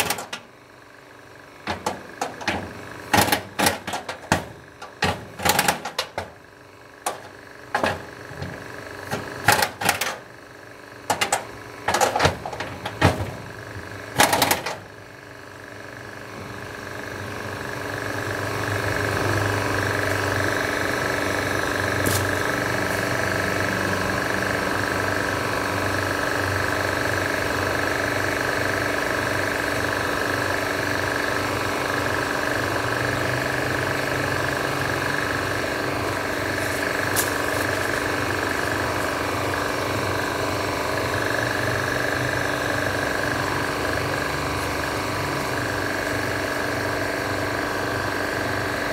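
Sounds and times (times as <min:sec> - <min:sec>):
mechanical hum: 0:00.0 - 0:48.9.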